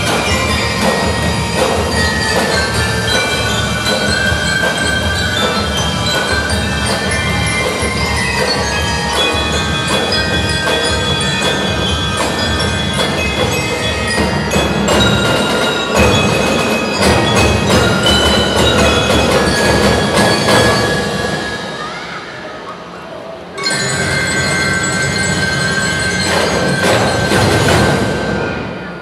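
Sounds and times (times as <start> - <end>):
marching drum line: 0.0 - 21.8, 23.8 - 29.0
bell lyres playing melody: 0.0 - 22.3, 23.6 - 29.0.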